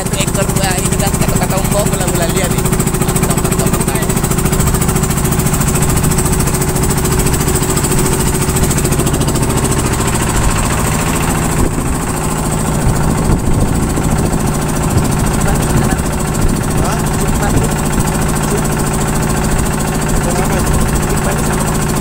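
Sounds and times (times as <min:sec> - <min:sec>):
boat engine throbbing: 0:00.0 - 0:22.0.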